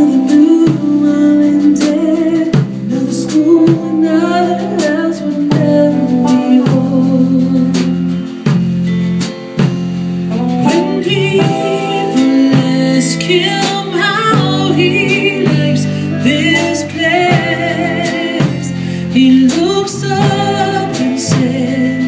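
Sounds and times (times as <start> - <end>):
woman singing: 0.0 - 8.3, 10.3 - 22.0
country ballad: 0.0 - 22.0
drums: 0.0 - 22.0
guitars: 0.0 - 22.0.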